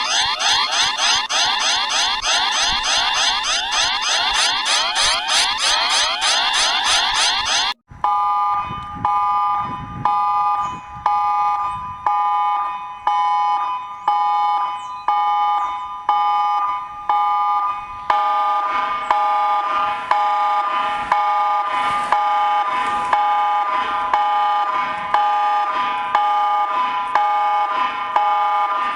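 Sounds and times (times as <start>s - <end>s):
electronic chord beeping: 0.0s - 28.9s
rising sweep alarm: 0.0s - 28.9s.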